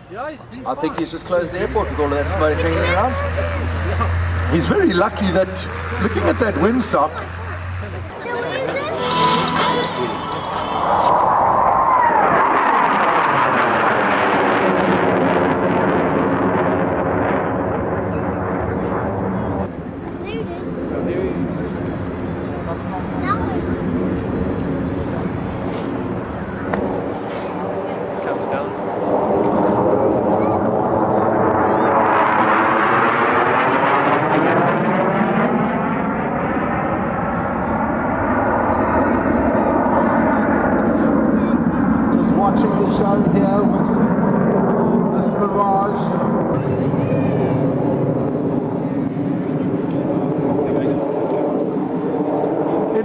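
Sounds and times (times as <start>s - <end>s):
aircraft flying past: 0.8s - 53.0s.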